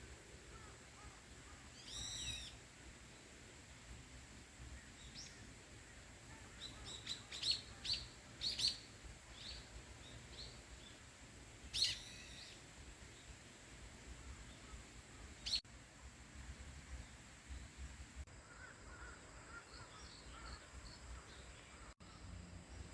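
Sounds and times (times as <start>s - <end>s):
small birds chirping: 0.0s - 3.4s, 4.6s - 15.7s, 16.8s - 22.9s
faint outdoor background noise: 0.0s - 22.9s.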